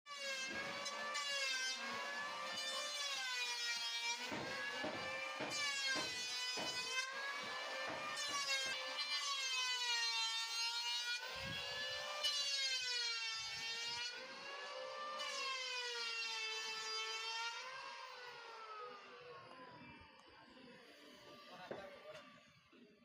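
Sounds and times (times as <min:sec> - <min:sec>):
power tool motor whining: 0:00.1 - 0:22.6.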